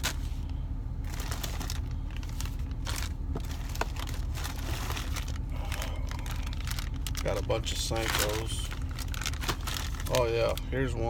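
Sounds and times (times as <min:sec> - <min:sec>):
plastic bags crinkling: 0:00.0 - 0:11.0
steady low hum: 0:00.0 - 0:11.0.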